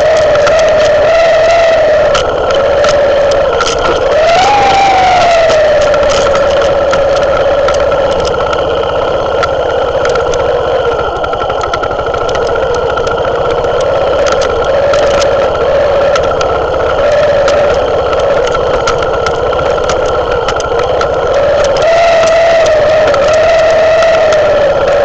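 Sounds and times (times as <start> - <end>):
motorcycle engine running: 0.0 - 25.0
stones clicking under tyres: 0.0 - 25.0.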